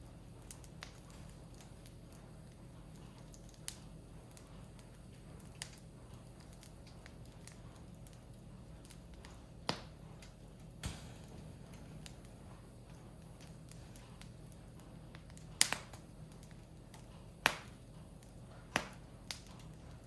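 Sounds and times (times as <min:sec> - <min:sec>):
firewood burning and crackling: 0:00.0 - 0:20.0
sharp pops of fire: 0:00.3 - 0:20.0.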